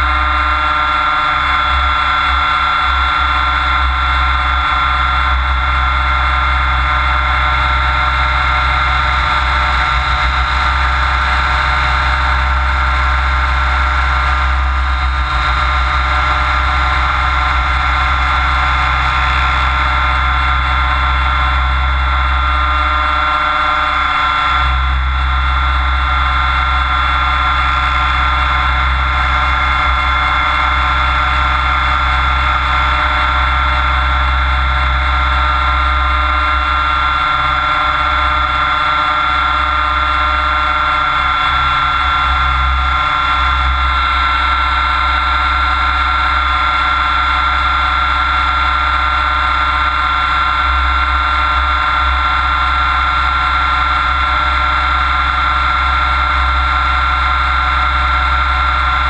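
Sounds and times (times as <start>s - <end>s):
model helicopter motor whine: 0.0s - 59.0s.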